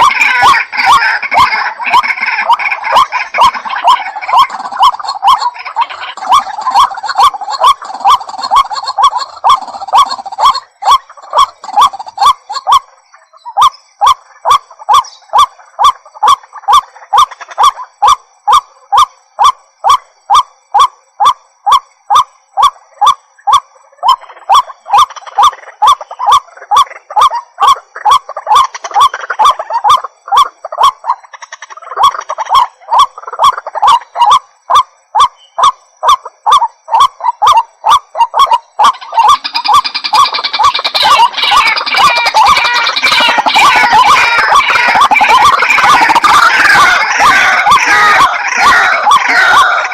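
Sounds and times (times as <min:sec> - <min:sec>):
bird croaking calls: 0:00.0 - 0:49.9.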